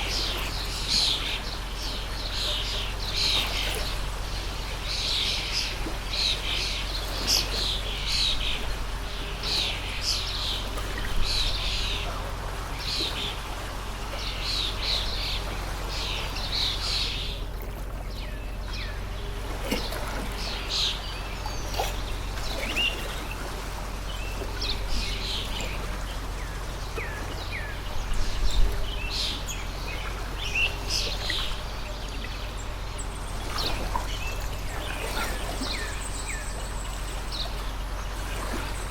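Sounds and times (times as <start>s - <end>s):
flowing stream: 0.0s - 38.9s
small birds chirping: 0.0s - 38.9s.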